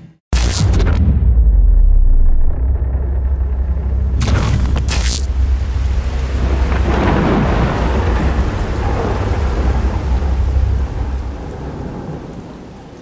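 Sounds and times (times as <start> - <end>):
deep rumble: 0.0 - 12.4
rushing noise: 0.3 - 12.2.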